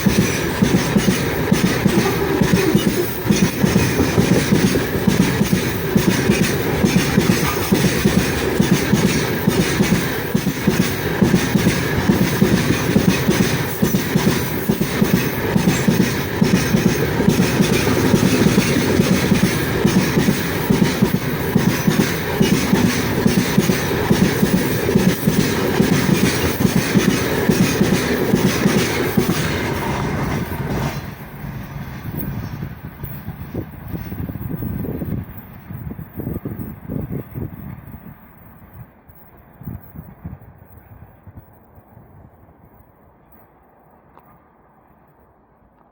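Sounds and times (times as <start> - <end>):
train wheels clattering over rail joints: 0.0 - 37.9.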